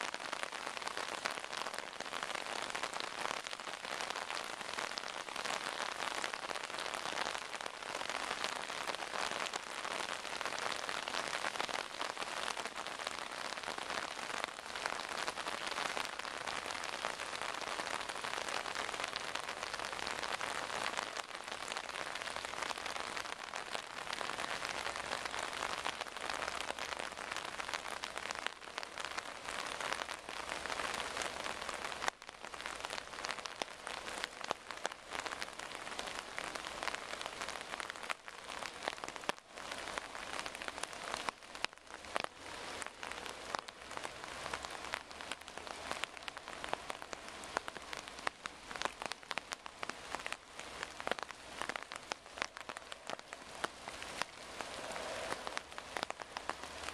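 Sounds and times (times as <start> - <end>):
torrential rain: 0.0 - 56.9.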